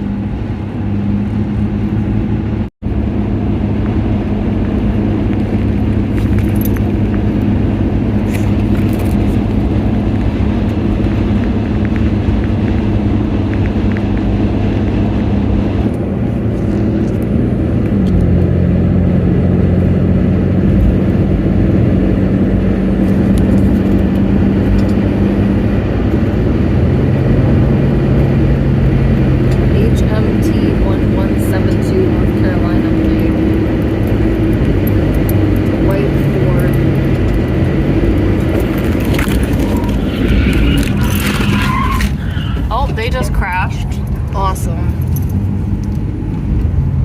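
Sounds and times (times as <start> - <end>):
road noise: 0.0 - 47.0
vehicle engine droning: 0.0 - 47.0.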